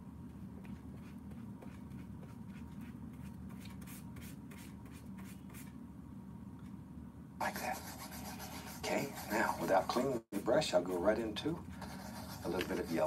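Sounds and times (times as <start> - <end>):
steady low hum: 0.0 - 13.0
paintbrush scratching on paper: 0.7 - 5.7, 7.4 - 13.0.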